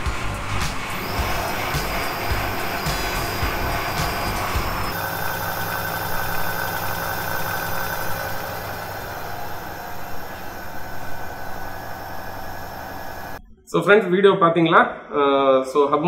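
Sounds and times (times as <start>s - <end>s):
electric hub motor whine: 0.0s - 13.4s.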